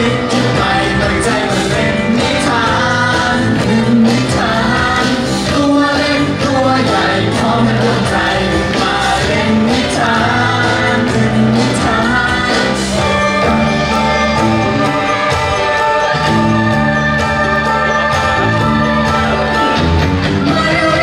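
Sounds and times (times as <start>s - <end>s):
backing music: 0.0s - 21.0s.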